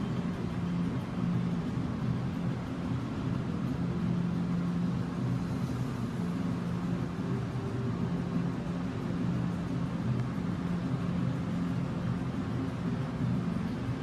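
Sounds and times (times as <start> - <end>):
vehicle rumble and hum: 0.0 - 14.0.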